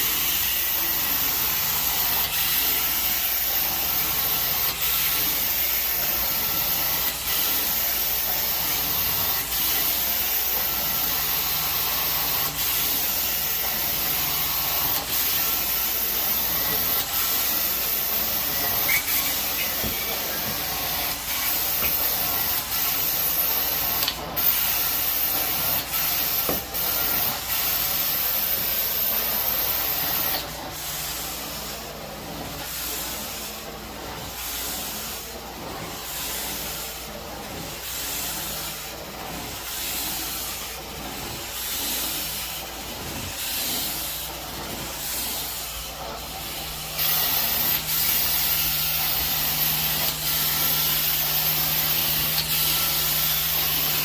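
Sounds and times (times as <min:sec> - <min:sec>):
carpet cleaning wand hissing: 0:00.0 - 0:54.0.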